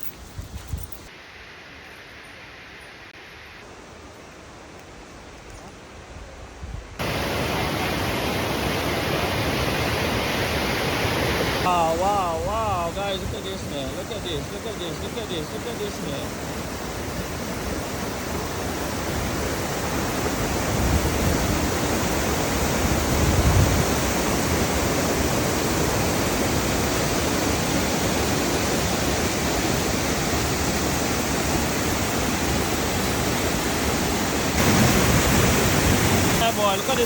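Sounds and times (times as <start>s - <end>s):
waterfall roaring: 7.0s - 37.0s.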